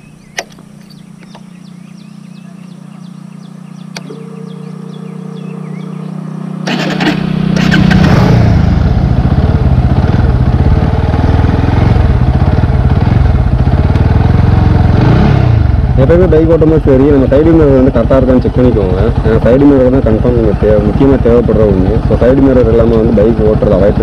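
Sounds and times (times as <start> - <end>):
motorcycle engine idling and revving: 0.0 - 24.0
motorcycle accelerating away: 0.1 - 24.0.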